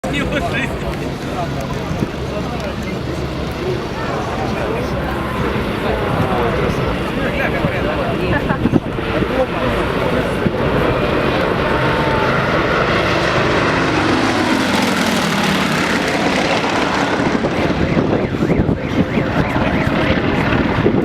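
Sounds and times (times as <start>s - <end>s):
propeller airplane flying past: 0.1s - 21.0s.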